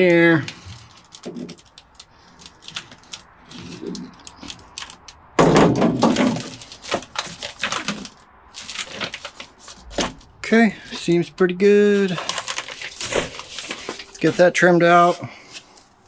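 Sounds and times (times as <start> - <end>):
mat rustling and clicking: 0.0 - 16.0
loud crinkling thunk: 0.5 - 11.3, 12.0 - 14.7.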